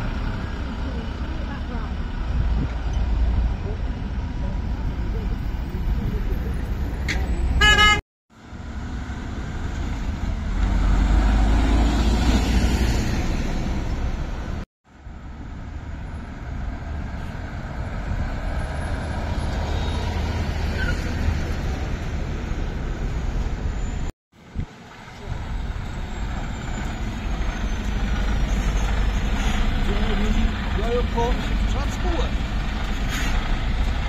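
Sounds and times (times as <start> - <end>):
lorry diesel engine rumble: 0.0 - 34.0.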